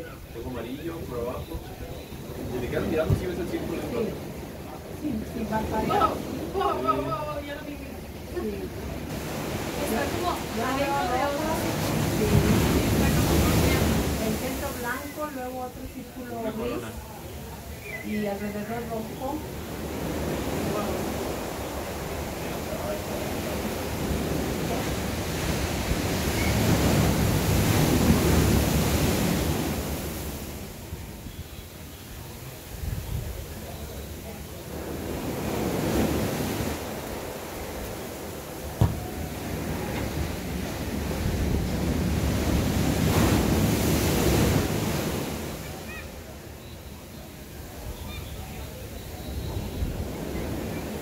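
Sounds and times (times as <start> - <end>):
wind rumbling on microphone: 0.0 - 16.4, 17.1 - 46.0
ocean waves crashing: 0.0 - 51.0.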